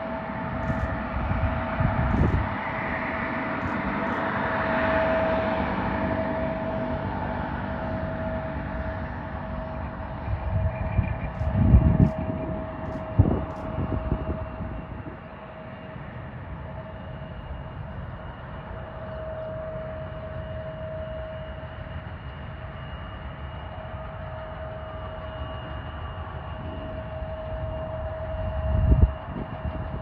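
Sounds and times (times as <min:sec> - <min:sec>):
airliner engine whine and rumble: 0:00.0 - 0:30.0.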